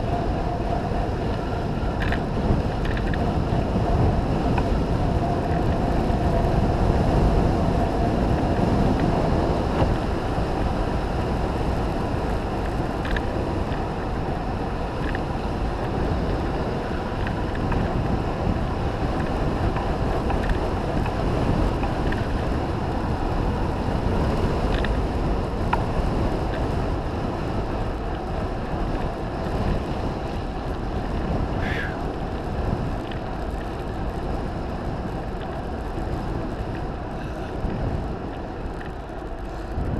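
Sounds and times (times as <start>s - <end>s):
bike tyres rolling over gravel: 0.0s - 39.9s
wind rush on microphone: 0.0s - 39.9s.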